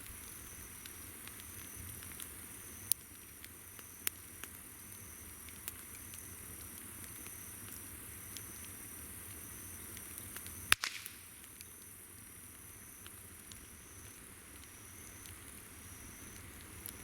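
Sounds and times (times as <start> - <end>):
campfire crackling and popping: 0.0 - 17.0
insects trilling: 0.0 - 17.0.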